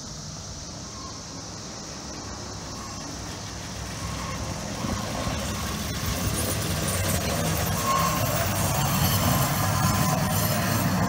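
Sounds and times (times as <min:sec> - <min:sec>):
high cicada drone: 0:00.0 - 0:11.0
truck engine and wheels on rails: 0:00.0 - 0:11.0.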